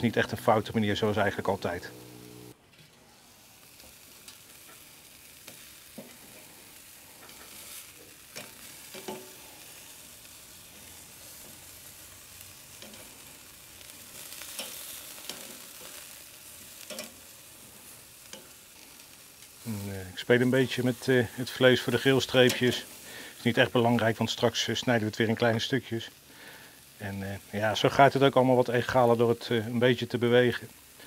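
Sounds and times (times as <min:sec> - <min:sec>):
fat crackling and popping: 0:00.0 - 0:31.0
meat sizzling on a grill: 0:00.0 - 0:31.0.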